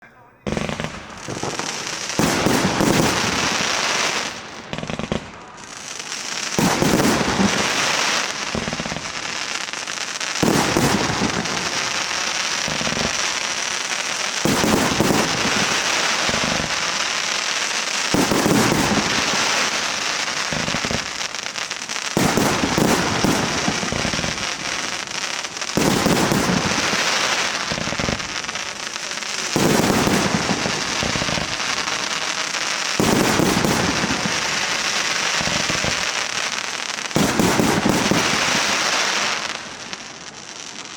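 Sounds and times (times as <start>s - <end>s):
fireworks crackling: 0.4s - 40.9s.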